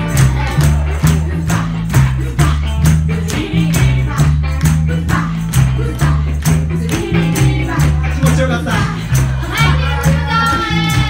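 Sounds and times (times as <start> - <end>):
bass line: 0.0 - 11.0
live band playing dance tune: 0.0 - 11.0.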